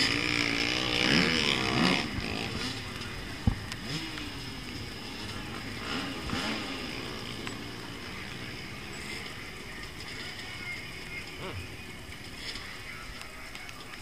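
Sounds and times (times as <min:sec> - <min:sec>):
dirt bike engines revving: 0:00.0 - 0:14.0
steady high hiss: 0:00.0 - 0:14.0.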